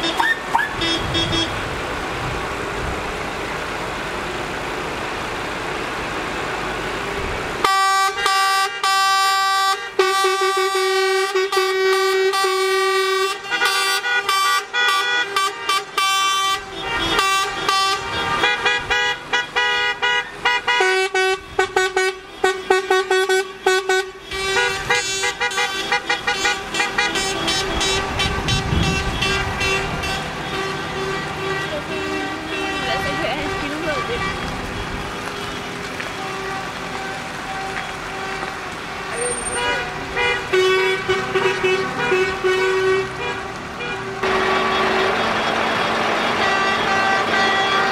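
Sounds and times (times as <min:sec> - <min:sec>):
car and truck horns honking: 0:00.0 - 0:01.8, 0:07.6 - 0:47.9
traffic noise: 0:00.0 - 0:47.9.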